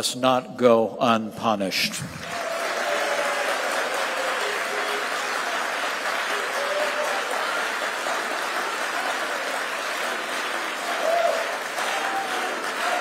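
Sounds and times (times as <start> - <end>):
large audience applauding: 2.1 - 13.0.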